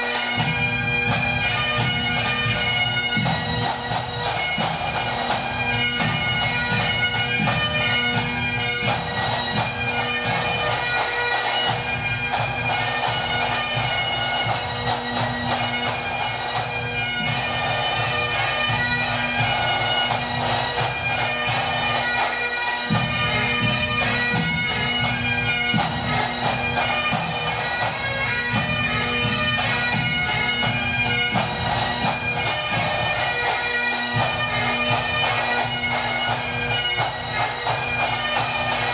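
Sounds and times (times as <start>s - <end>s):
bagpipes playing a tune: 0.0s - 38.9s
drums beating: 0.0s - 38.9s.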